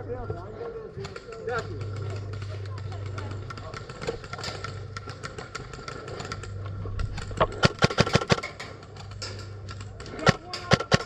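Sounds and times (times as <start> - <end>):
steady low hum: 0.0 - 11.0
airsoft guns firing: 1.0 - 11.0.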